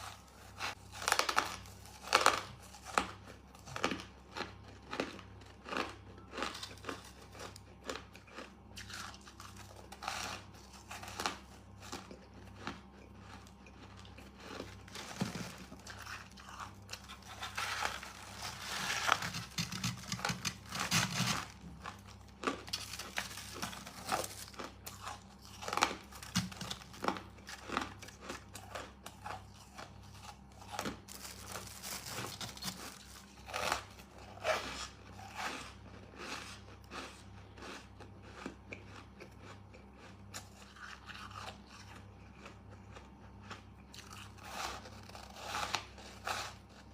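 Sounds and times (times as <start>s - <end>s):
chewing crunchy ice: 0.0s - 46.9s.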